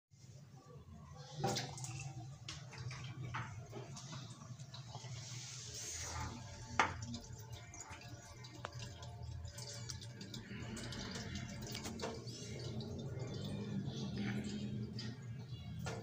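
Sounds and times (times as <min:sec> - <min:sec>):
tap water running into sink: 0:01.4 - 0:16.0.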